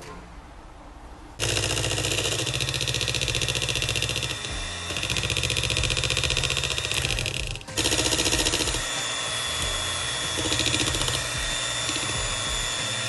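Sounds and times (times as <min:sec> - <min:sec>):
electric hand mixer running: 0:01.4 - 0:13.0.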